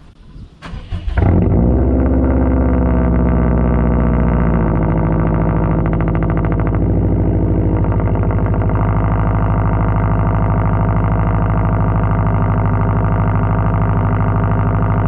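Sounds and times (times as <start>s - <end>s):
car engine idling high: 0.6s - 15.0s.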